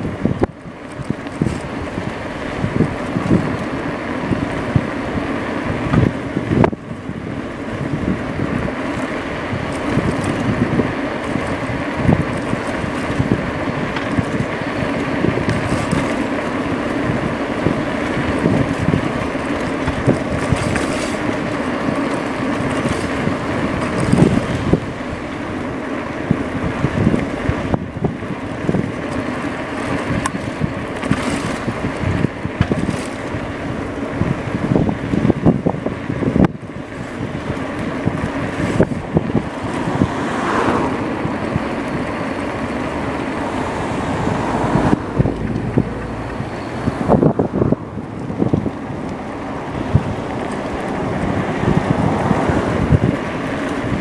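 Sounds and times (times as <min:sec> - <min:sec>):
rumble of bike ride: 0:00.0 - 0:54.0
wind buffeting microphone: 0:00.0 - 0:54.0.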